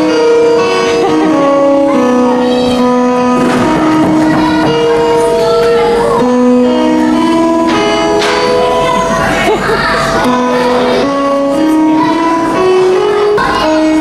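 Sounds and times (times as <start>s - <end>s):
music with long held notes: 0.0s - 14.0s.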